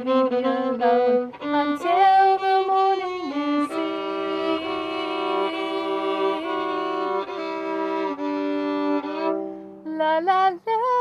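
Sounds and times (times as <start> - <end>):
solo violin slow melody: 0.0 - 11.0.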